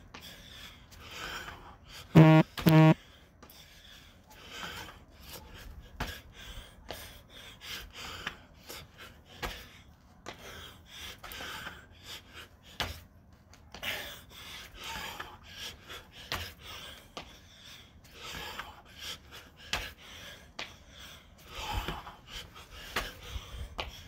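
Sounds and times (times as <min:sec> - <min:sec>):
person breathing hard: 0:00.0 - 0:02.2, 0:03.0 - 0:24.0.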